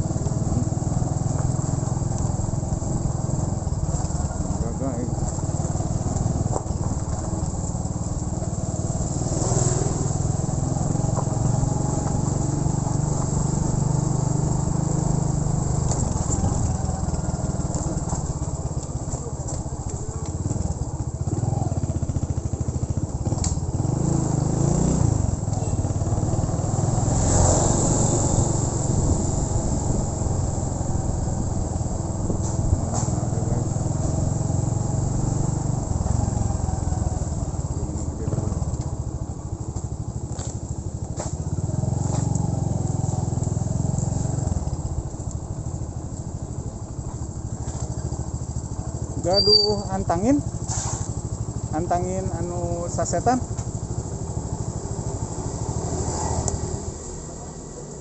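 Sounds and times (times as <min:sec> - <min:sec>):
motorcycle engine running: 0:00.0 - 0:58.0
road noise rush: 0:00.0 - 0:58.0.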